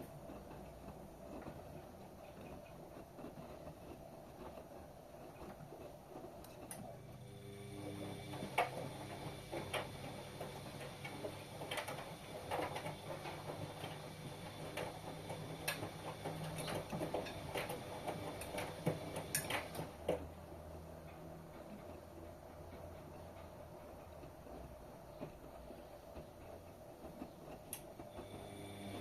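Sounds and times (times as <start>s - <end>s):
clicks and knocks of tumbling load: 0.0s - 29.0s
washing machine motor hum: 0.0s - 29.0s.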